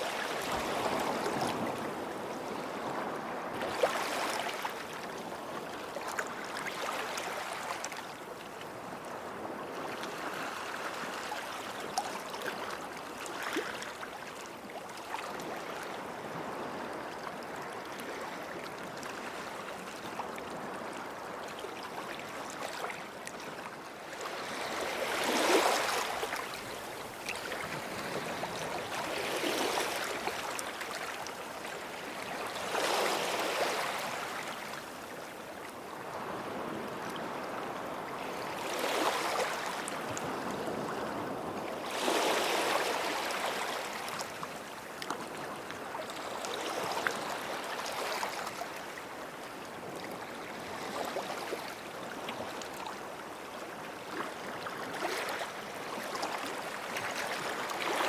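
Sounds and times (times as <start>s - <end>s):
small waves washing onto beach: 0.0s - 58.0s.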